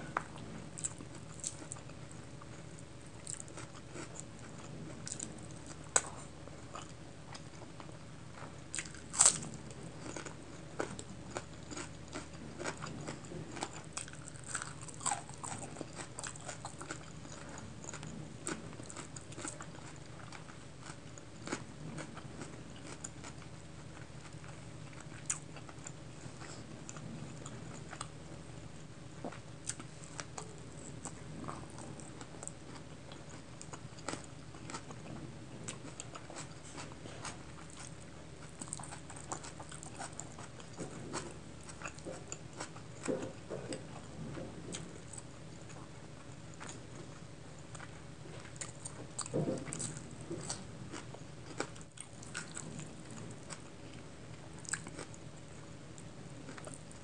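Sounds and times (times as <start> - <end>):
chewing and wet mouth sounds: 0.1 - 28.2, 29.2 - 54.0, 54.6 - 57.0.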